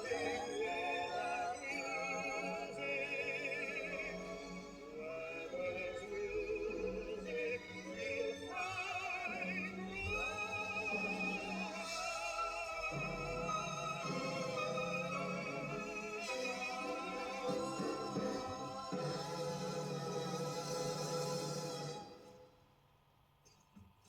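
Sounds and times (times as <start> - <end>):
operatic classical music record: 0.0 - 22.6.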